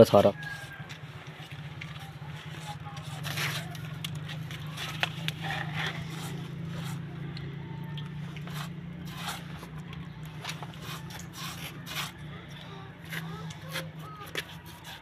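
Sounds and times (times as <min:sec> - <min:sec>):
brush scraping cement on wall: 0:02.0 - 0:07.2, 0:08.1 - 0:15.0.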